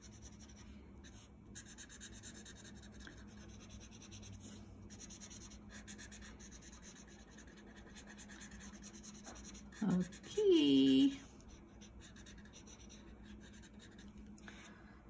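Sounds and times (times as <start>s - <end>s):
marker scratching on paper: 0.0s - 14.1s.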